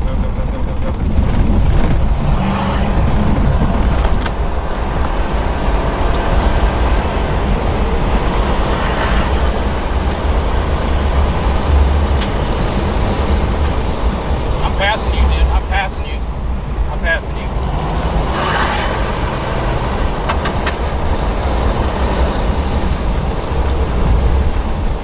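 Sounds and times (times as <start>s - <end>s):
vehicle road and wind noise: 0.0s - 25.0s.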